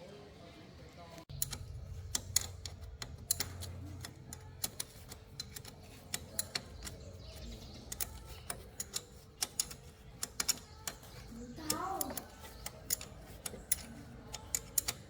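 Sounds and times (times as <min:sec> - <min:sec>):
sharp irregular clicks and taps: 0:01.3 - 0:15.0.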